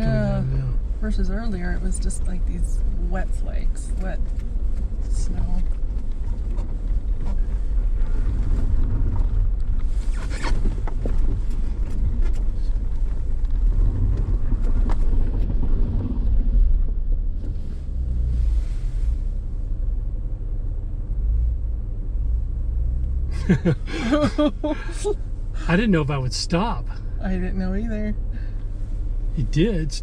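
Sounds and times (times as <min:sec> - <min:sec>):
car rumbling from inside cabin: 0:00.0 - 0:30.0.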